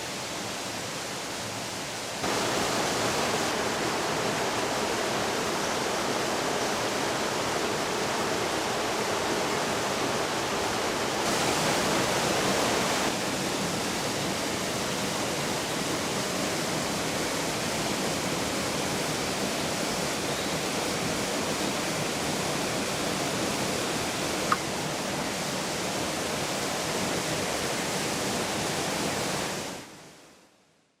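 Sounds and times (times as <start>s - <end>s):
stream rushing over rocks: 0.0s - 30.2s.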